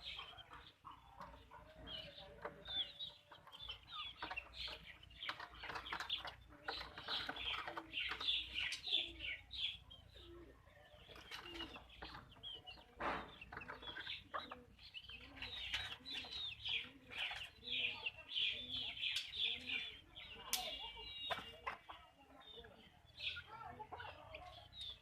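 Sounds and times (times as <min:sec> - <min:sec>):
chickens chirping and clucking: 0:00.0 - 0:25.0.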